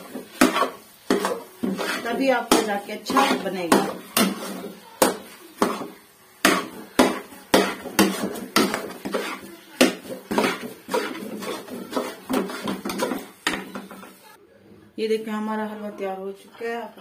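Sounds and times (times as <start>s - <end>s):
metal spoon scraping metal pan: 0.0s - 14.3s.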